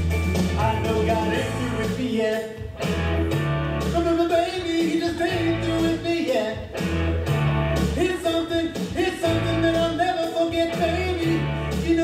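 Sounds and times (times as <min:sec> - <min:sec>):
band backing music: 0:00.0 - 0:12.0
person singing: 0:00.4 - 0:06.8, 0:07.9 - 0:12.0.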